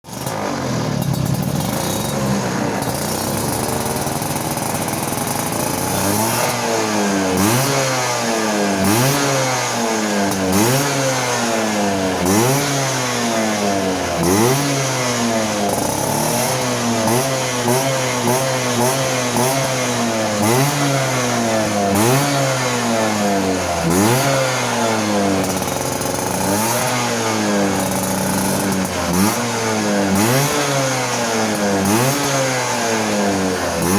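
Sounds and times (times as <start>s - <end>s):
scooter engine revving: 0.0s - 33.9s
exhaust crackle: 0.1s - 32.3s.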